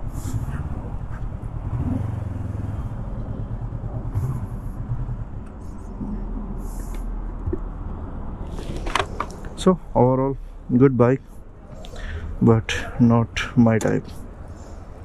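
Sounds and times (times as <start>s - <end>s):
motorcycle engine drone: 0.0s - 15.0s
road noise: 0.0s - 15.0s.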